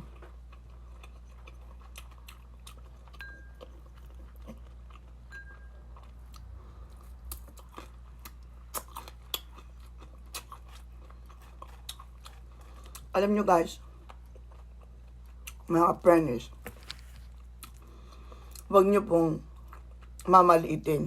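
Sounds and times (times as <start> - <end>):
person chewing crunchy food: 0.0 - 13.2, 13.8 - 15.7, 16.6 - 18.7, 19.5 - 20.3.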